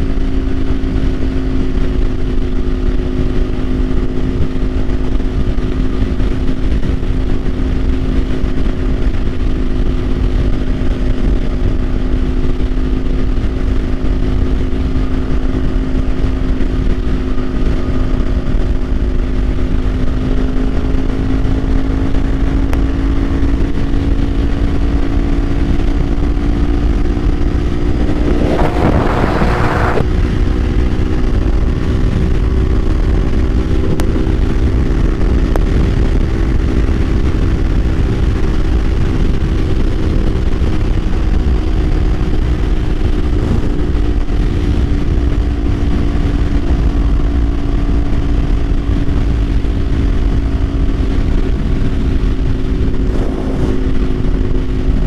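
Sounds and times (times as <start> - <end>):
motorcycle engine cruising: 0.0 - 55.0
wind rumble: 0.0 - 55.0.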